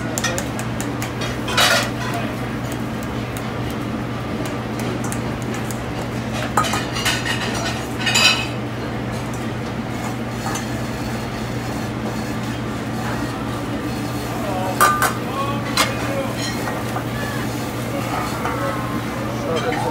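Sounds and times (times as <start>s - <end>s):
kitchen ventilation hum: 0.0s - 19.9s.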